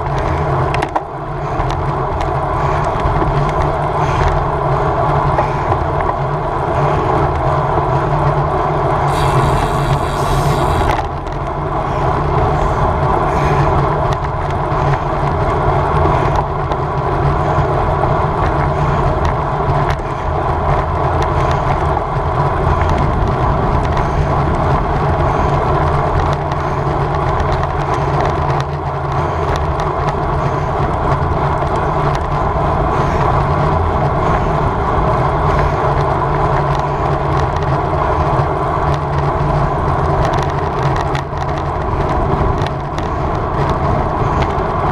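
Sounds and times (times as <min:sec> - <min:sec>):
bicycle tyres and drivetrain hum: 0:00.0 - 0:44.9
wind rushing over microphone: 0:01.6 - 0:44.9.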